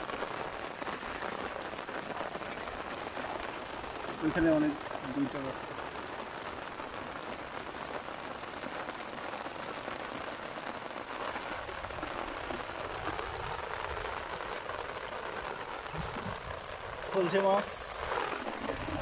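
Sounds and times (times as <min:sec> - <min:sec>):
rain falling on shallow water: 0:00.0 - 0:19.0.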